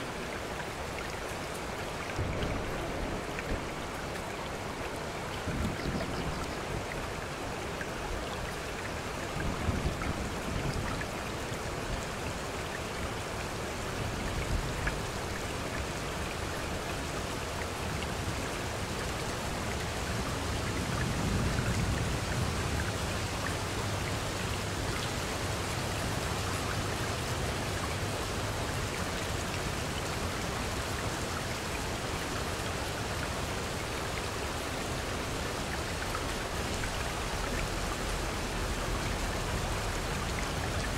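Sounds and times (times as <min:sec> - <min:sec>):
rain falling steadily: 0:00.0 - 0:40.9.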